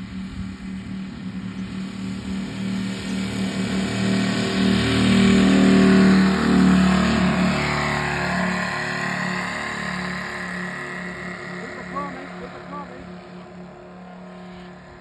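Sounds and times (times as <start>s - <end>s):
model plane engines at high power: 0.0s - 15.0s.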